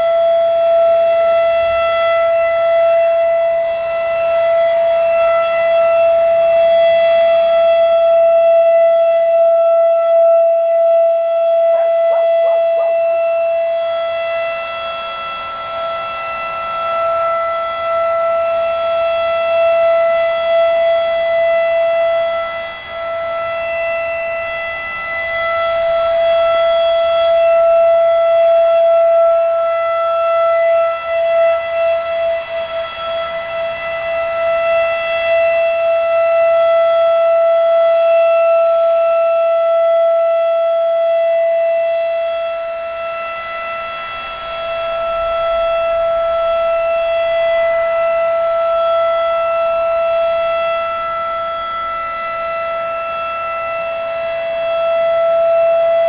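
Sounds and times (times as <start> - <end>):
warning siren steady tone: 0.0 - 56.0.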